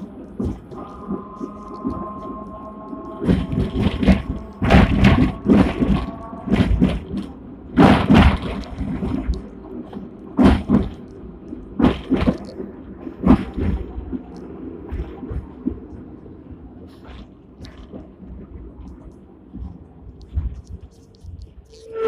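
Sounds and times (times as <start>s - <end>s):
steady low rumble: 0.0s - 22.0s
tram knocks and clatters: 0.0s - 22.0s.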